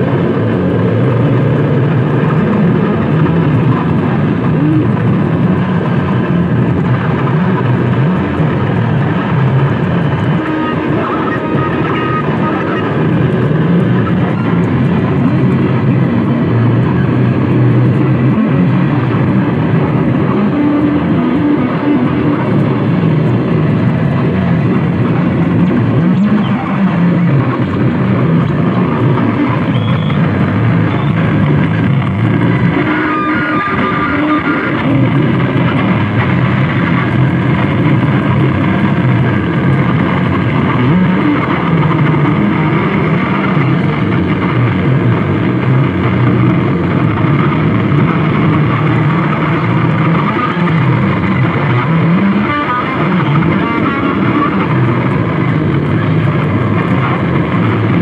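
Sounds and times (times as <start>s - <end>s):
distorted electronic noise: 0.0s - 58.0s.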